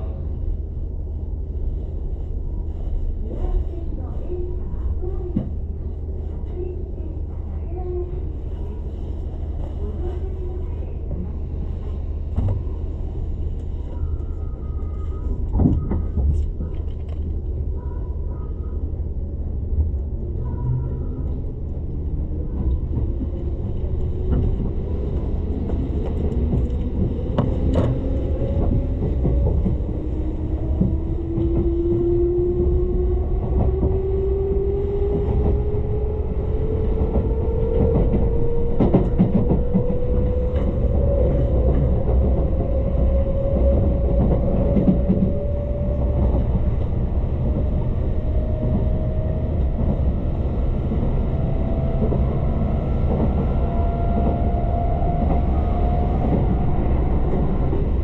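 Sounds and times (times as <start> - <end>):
train rumble inside car: 0.0 - 58.0.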